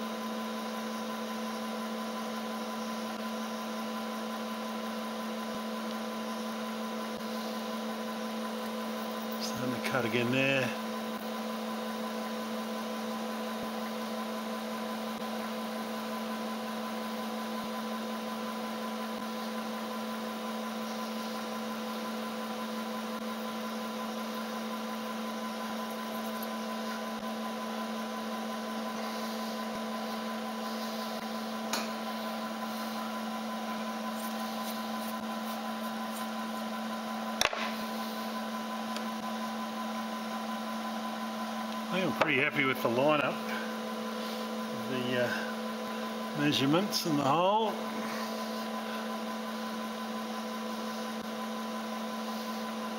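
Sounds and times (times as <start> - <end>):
milling machine spindle humming: 0.0 - 52.9.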